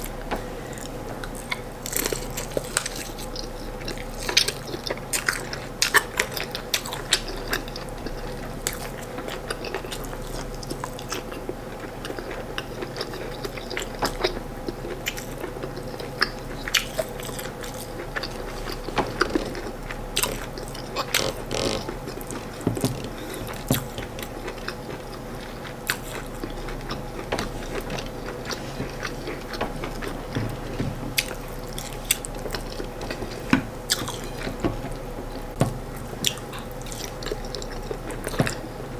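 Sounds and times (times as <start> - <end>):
chewing with mouth clicks: 0.0 - 38.7.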